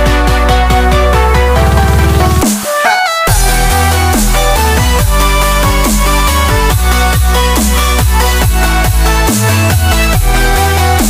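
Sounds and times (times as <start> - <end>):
progressive house music: 0.0 - 11.0.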